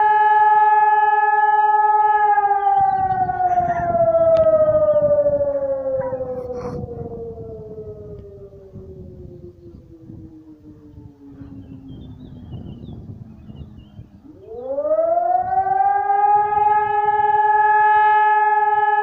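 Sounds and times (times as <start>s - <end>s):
distant siren winding down: 0.0s - 19.0s.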